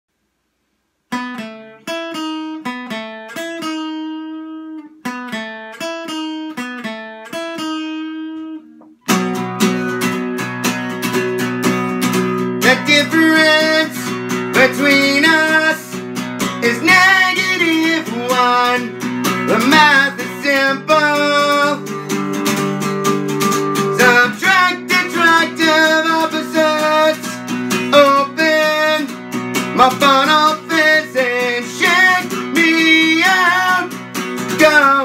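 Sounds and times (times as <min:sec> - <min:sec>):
acoustic guitar picked notes: 0:01.1 - 0:35.0
acoustic guitar strummed chords: 0:01.1 - 0:35.0.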